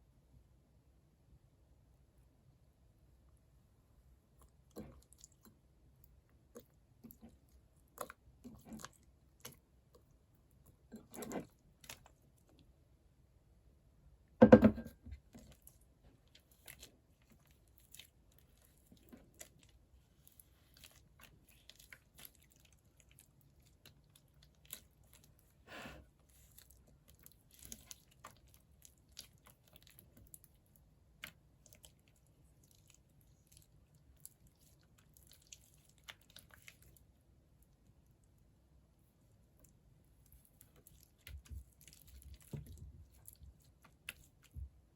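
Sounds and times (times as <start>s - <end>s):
slime squish: 4.4s - 12.7s, 15.1s - 38.4s, 39.2s - 44.9s.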